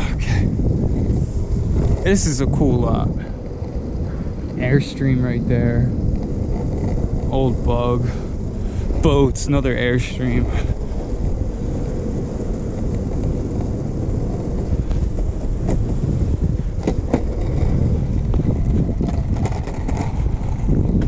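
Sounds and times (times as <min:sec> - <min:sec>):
sharp clicks from bumps: 0:00.0 - 0:21.0
wheels rolling over pavement: 0:00.0 - 0:21.0
wind buffeting microphone: 0:00.0 - 0:21.0.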